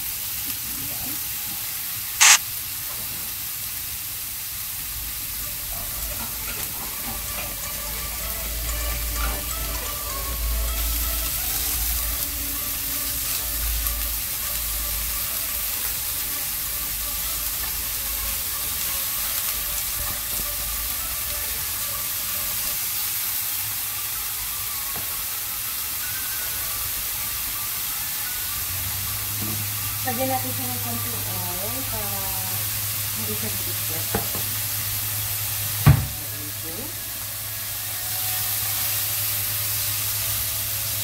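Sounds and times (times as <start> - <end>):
bacon sizzling in a frying pan: 0.0 - 41.0.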